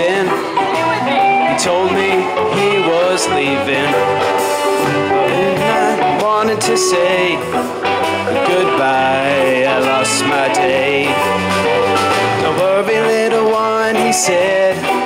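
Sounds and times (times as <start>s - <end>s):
bass guitar: 0.0s - 15.0s
drums: 0.0s - 15.0s
electric guitars: 0.0s - 15.0s.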